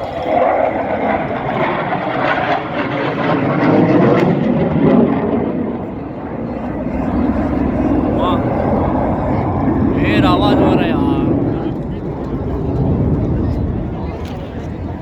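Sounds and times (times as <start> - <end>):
aircraft flying over: 0.0 - 15.0.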